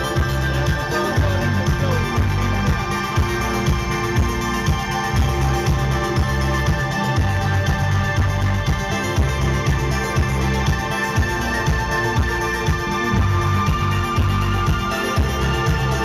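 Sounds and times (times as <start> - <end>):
live synth-pop music: 0.0 - 16.0.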